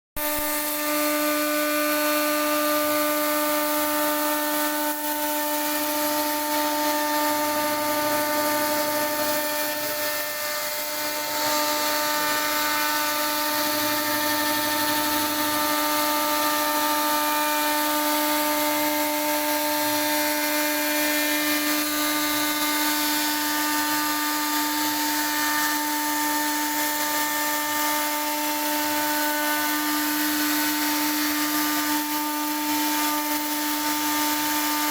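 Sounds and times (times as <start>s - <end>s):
bit carving wood: 0.2s - 34.9s
router spindle whining: 0.2s - 34.9s.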